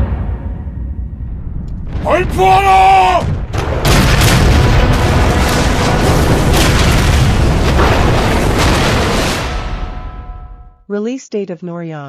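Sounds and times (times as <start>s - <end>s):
sharp cannon shots: 0.0s - 10.7s
booming cannon blasts: 0.0s - 10.8s.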